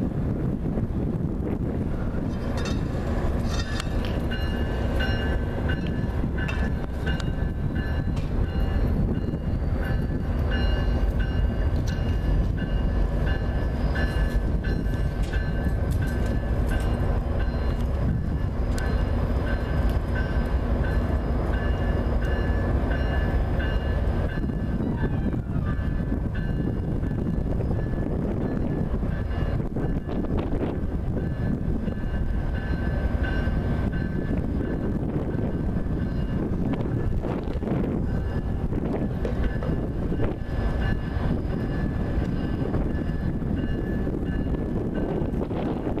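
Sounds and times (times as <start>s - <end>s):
locomotive rumbling: 0.0s - 46.0s
locomotive bell ringing: 2.3s - 30.3s, 31.1s - 37.2s, 37.8s - 45.4s.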